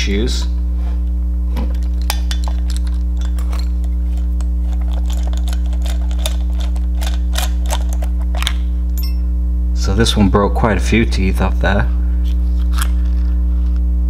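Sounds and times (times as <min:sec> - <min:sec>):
loud electrical hum: 0:00.0 - 0:14.0.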